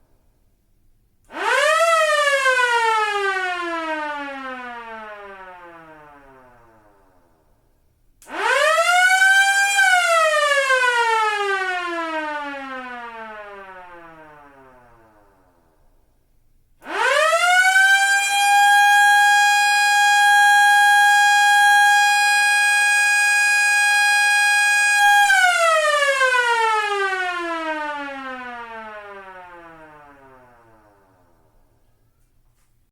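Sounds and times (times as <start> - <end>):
police siren wailing: 1.3 - 6.7, 8.3 - 15.1, 16.8 - 31.1.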